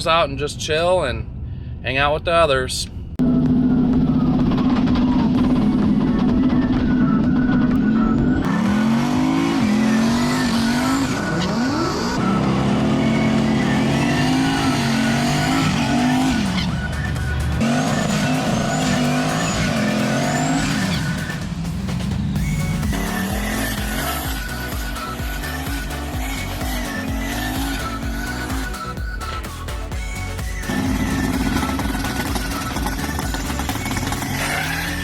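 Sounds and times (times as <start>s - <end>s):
car engines revving: 3.2s - 35.0s
tire squeal: 3.6s - 35.0s.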